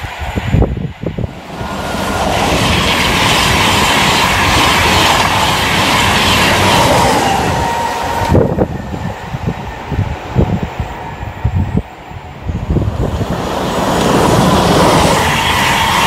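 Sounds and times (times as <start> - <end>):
train passing at speed: 0.0 - 16.0
wind buffeting microphone: 0.0 - 16.0.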